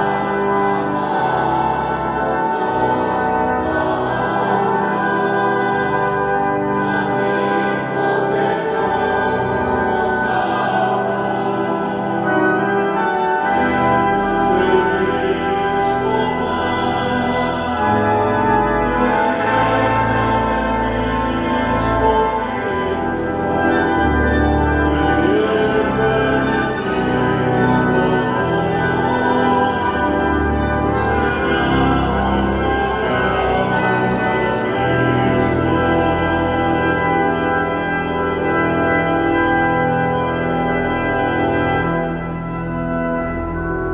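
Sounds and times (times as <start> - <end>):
choir singing a hymn: 0.0 - 43.9
pipe organ: 0.0 - 43.9.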